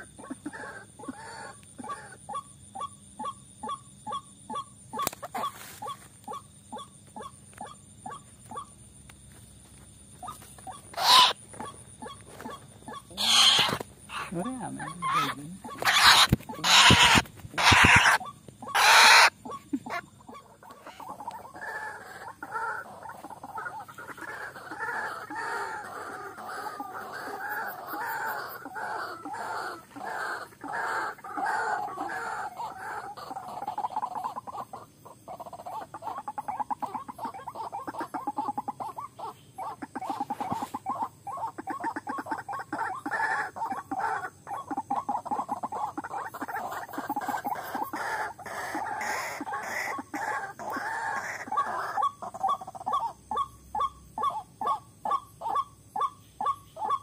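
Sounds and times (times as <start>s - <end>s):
waterhen calls: 0.0s - 8.8s, 10.2s - 57.0s.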